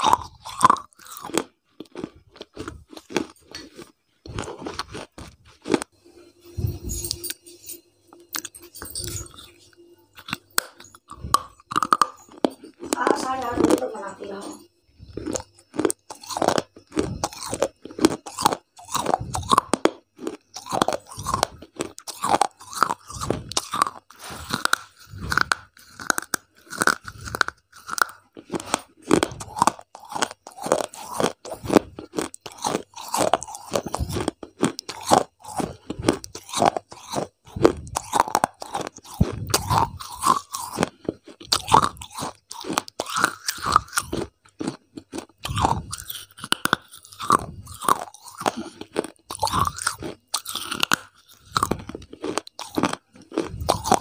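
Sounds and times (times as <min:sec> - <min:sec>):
crunchy food chewing: 0:00.0 - 0:07.4, 0:08.1 - 0:54.0.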